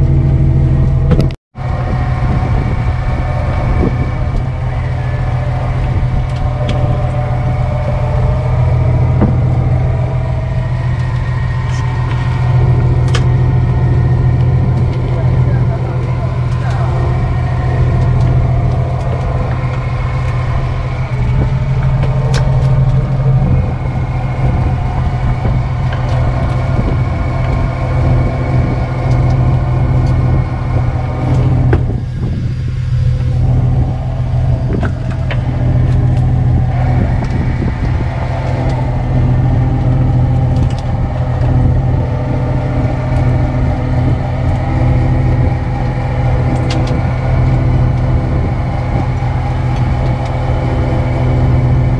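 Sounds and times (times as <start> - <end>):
boat engine humming: 0.0 - 51.9.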